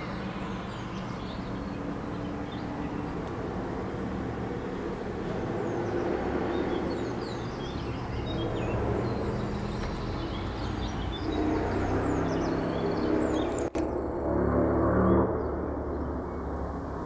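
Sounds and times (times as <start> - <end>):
small birds chirping: 0.0 - 14.1.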